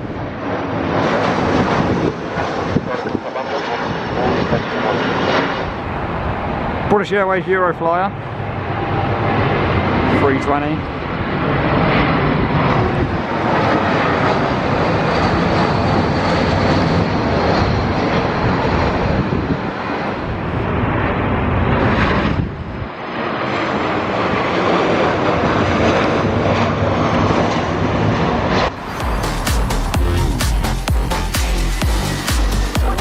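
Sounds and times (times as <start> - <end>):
jet engines roaring: 0.0 - 33.0.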